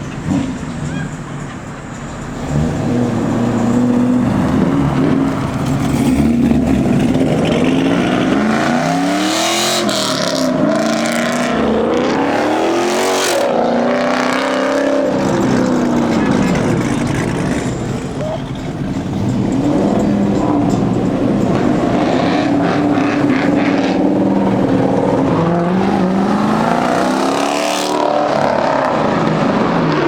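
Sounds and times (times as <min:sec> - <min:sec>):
car engine revving: 0:02.1 - 0:30.0.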